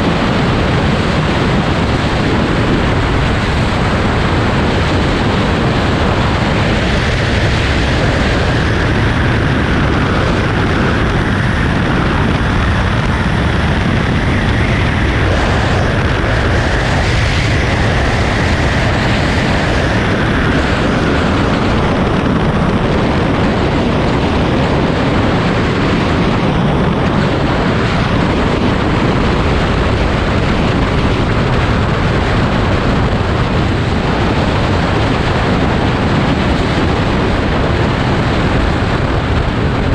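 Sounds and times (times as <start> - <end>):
road rumble: 0.0 - 39.9
wind noise on microphone: 0.0 - 39.9.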